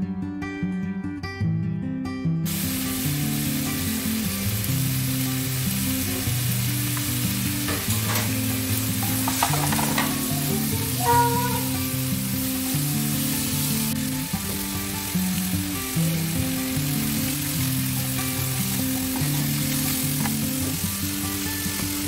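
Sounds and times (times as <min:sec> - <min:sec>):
onions sizzling in oil: 0:02.5 - 0:22.0
quiet background music: 0:02.5 - 0:22.0.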